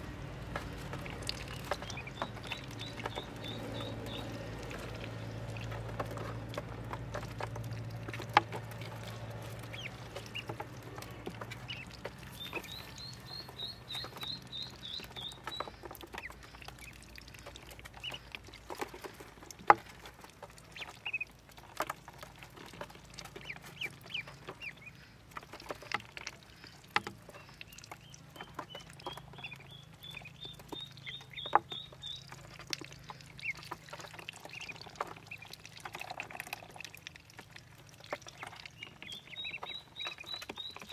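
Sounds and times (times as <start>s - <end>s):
ducklings peeping: 0.0s - 40.9s.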